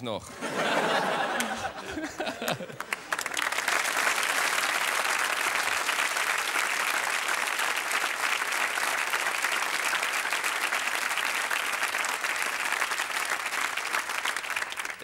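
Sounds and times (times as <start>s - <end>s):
audience applauding: 0.8s - 15.0s.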